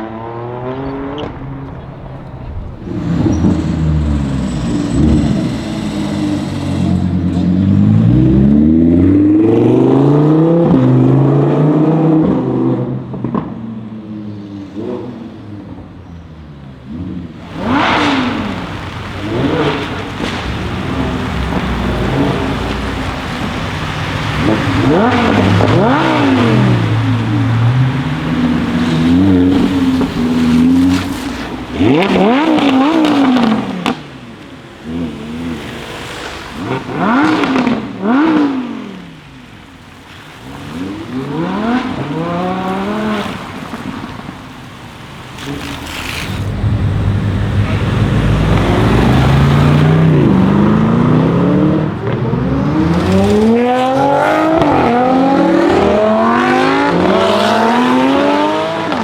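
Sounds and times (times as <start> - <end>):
exhaust crackles: 0.0 - 11.4, 13.1 - 59.0
car accelerating through gears: 0.0 - 15.9, 16.7 - 59.0
sports car engine revving: 0.0 - 39.7, 40.3 - 59.0.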